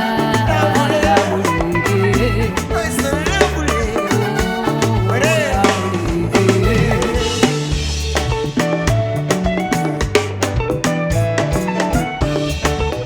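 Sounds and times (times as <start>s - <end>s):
bass line: 0.0s - 13.0s
drums keeping a steady beat: 0.0s - 13.0s
lead melody with bending notes: 0.0s - 13.0s.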